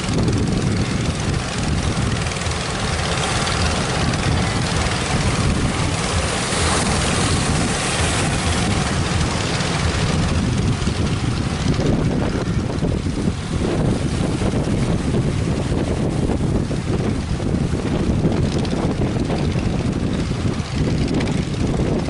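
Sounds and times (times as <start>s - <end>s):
ocean waves: 0.0s - 22.0s
wind buffeting microphone: 0.0s - 22.0s.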